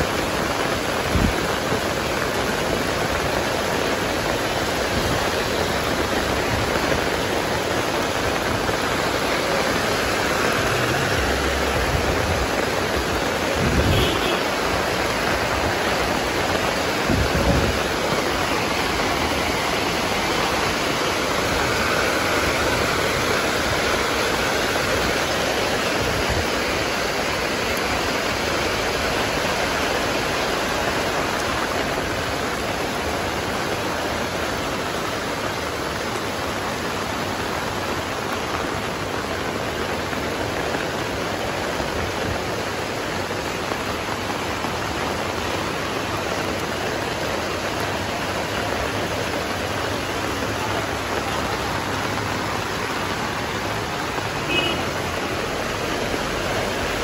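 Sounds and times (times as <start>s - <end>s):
heavy rain on a street: 0.0s - 57.0s.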